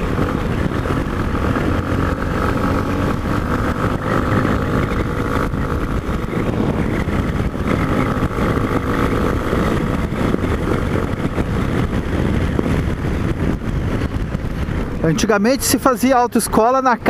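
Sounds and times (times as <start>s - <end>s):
motorcycle engine cruising: 0.0s - 17.0s
road and wind rumble: 0.0s - 17.0s.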